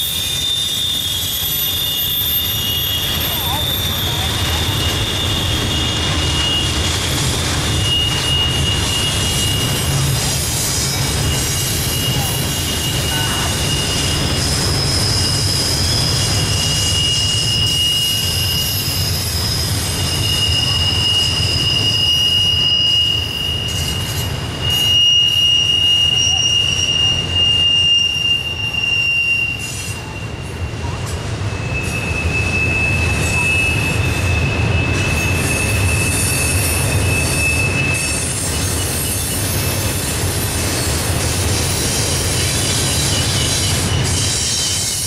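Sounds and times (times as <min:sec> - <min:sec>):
low rumble of cars on rails: 0:00.0 - 0:45.0
wheel flanges squealing: 0:00.0 - 0:45.0.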